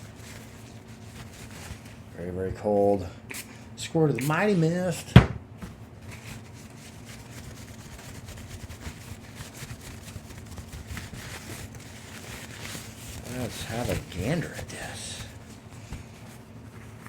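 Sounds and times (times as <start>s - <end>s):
faint rubbing and handling: 0.0s - 2.7s, 5.6s - 17.0s.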